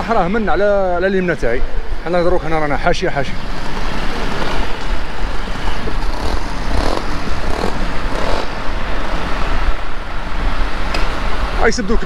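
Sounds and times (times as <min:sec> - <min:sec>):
vehicle road noise rumble: 0:00.0 - 0:12.0.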